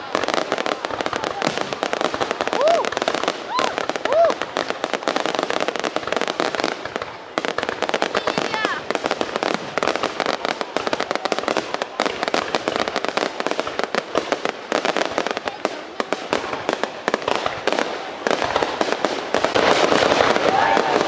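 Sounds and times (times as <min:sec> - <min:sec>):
fireworks crackling: 0:00.0 - 0:21.0
fireworks cracks and bangs: 0:00.0 - 0:21.0.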